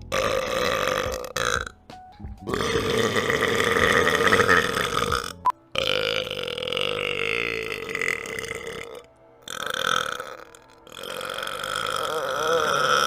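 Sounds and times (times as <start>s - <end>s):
person burping: 0.0s - 1.8s, 2.4s - 13.0s.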